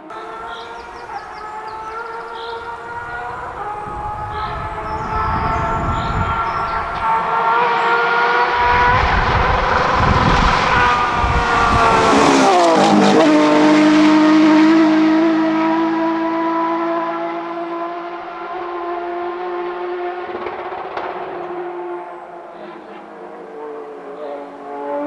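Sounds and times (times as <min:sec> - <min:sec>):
rally car engine passing by: 0:00.0 - 0:25.0.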